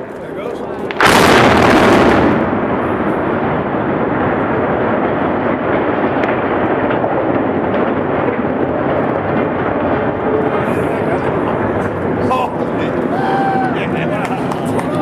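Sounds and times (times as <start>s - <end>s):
demolition blast roar: 0.6s - 15.0s.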